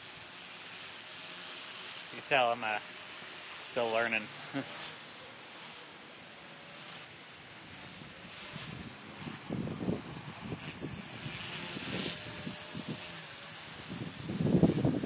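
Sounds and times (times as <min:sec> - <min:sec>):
high-pitched rc helicopter whine: 0:00.0 - 0:15.0.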